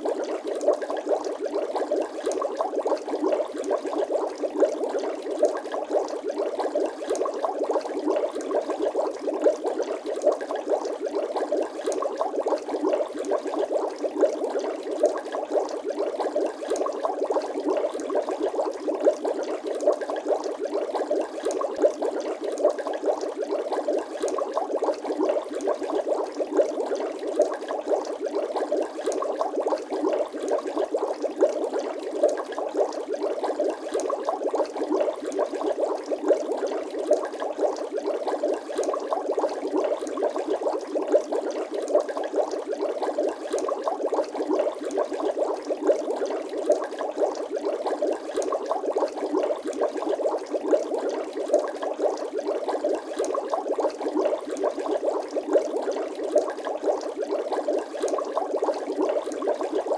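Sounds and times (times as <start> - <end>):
dense bubbling: 0.0 - 59.9.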